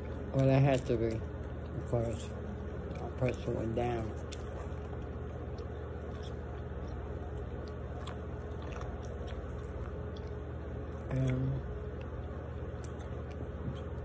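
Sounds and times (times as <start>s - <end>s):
person chewing food: 0.0s - 14.0s
steady low hum: 0.0s - 14.0s.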